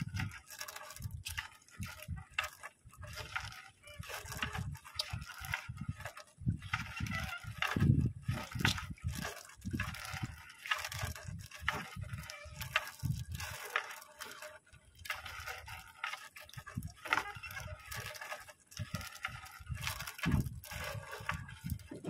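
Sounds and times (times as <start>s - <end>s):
wet net rustling and scraping: 0.0s - 22.0s.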